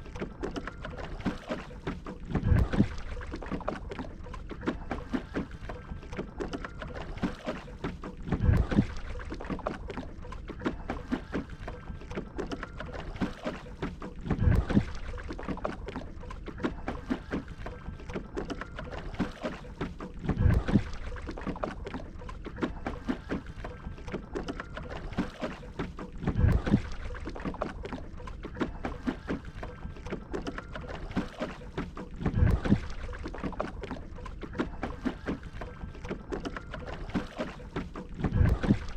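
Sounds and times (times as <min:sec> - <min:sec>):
paddle stroke through water: 0:00.0 - 0:38.9
steady water noise: 0:00.0 - 0:38.9.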